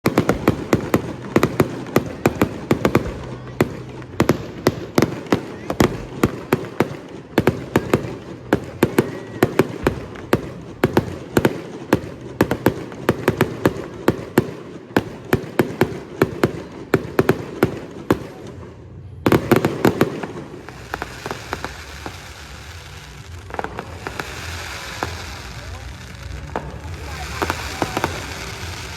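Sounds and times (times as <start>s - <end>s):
fireworks hiss: 0.0s - 16.1s, 19.5s - 28.9s
fireworks bangs: 0.0s - 28.9s.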